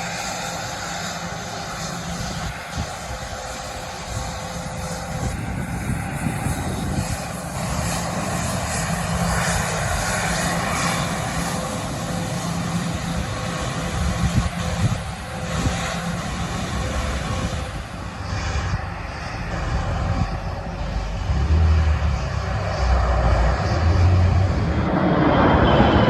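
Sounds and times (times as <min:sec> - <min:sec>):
aircraft engines running: 0:00.0 - 0:26.0.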